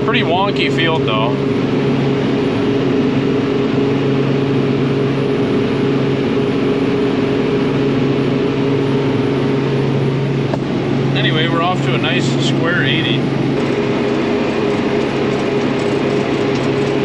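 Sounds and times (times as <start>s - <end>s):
crop sprayer engine droning: 0.0s - 17.0s.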